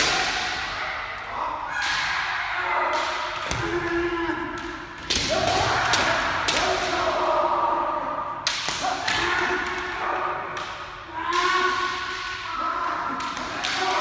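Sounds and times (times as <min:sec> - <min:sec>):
fighters shouting: 0:00.0 - 0:14.0.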